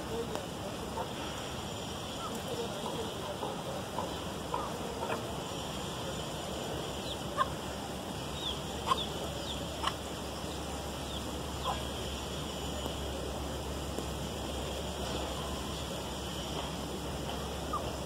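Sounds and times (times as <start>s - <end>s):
chickens clucking: 0.0s - 13.2s, 14.0s - 18.0s
steady background noise: 0.0s - 18.0s.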